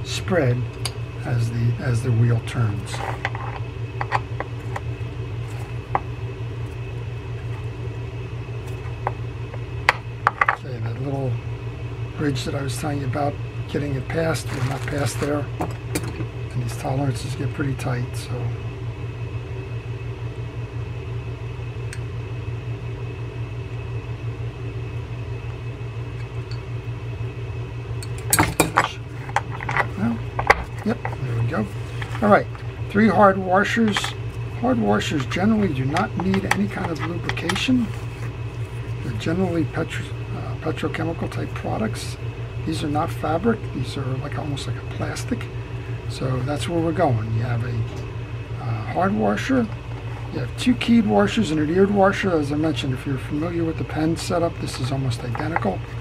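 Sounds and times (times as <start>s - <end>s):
faint high whine: 0.0s - 56.0s
low hum of room machinery: 0.0s - 56.0s.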